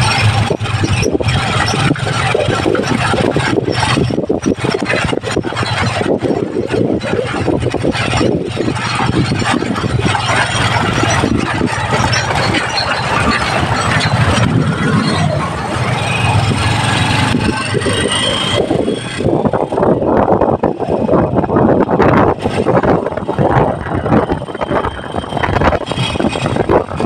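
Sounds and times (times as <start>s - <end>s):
dump truck passing: 0.0s - 27.0s
motorcycle engine running: 0.0s - 27.0s
road noise: 0.0s - 27.0s.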